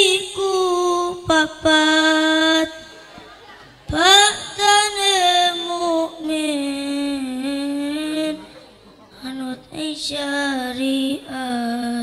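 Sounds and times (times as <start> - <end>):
boy singing into a microphone: 0.0 - 12.0.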